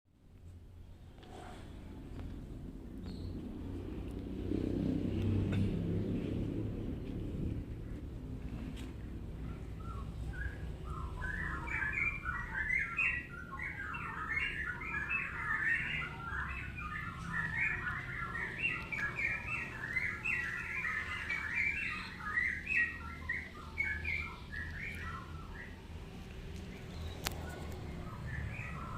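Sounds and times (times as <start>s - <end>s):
birds chirping: 2.2s - 28.9s.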